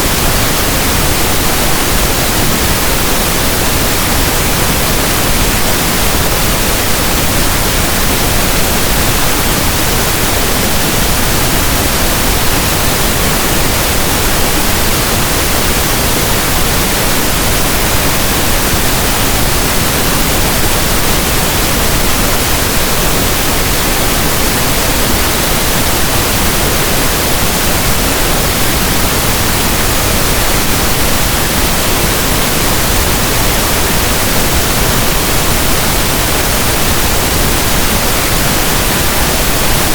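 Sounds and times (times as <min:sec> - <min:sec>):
pink noise static hiss: 0:00.0 - 0:39.9.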